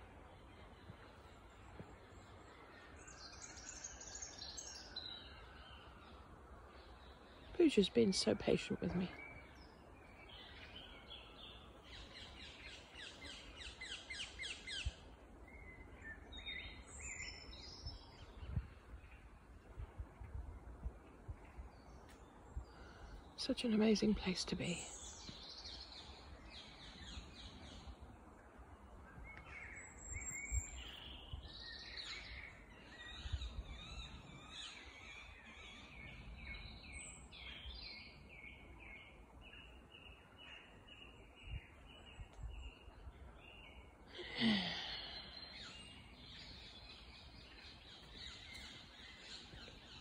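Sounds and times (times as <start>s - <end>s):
birds singing: 0.0s - 50.0s.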